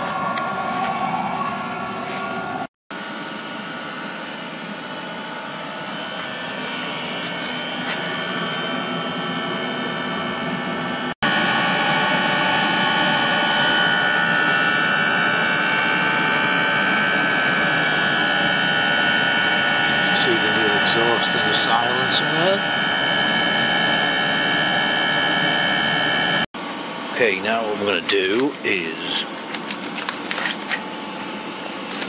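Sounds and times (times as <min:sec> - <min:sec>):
diesel heater exhaust rushing: 0:00.0 - 0:26.5.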